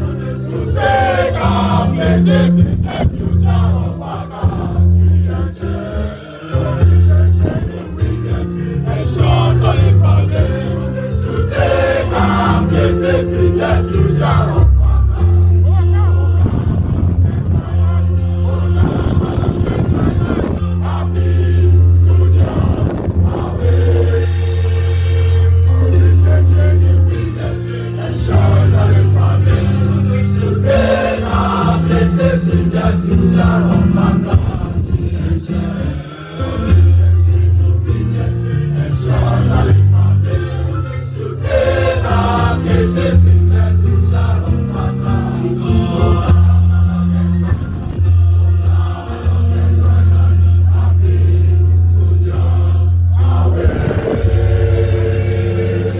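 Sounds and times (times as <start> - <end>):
amplified backing music: 0.0 - 55.9
low held accompaniment notes: 0.0 - 55.9
voices singing: 0.0 - 55.9
deep bass line: 0.8 - 5.8, 6.5 - 36.0, 36.7 - 55.9.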